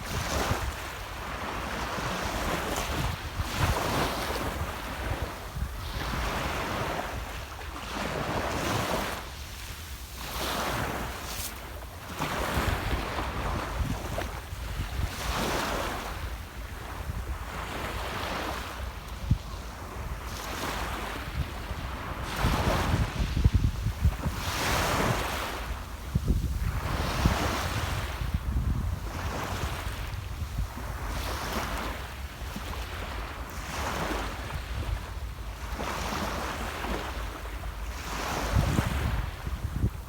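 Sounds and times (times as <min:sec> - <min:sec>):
wind rumbling on microphone: 0:00.0 - 0:09.1, 0:10.3 - 0:37.1, 0:37.9 - 0:40.0
small sea waves breaking on shore: 0:00.0 - 0:40.0.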